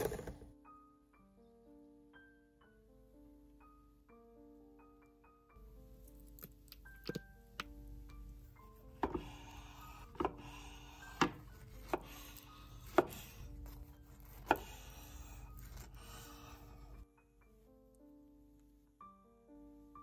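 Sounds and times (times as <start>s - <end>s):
soft piano music: 0.2s - 20.0s.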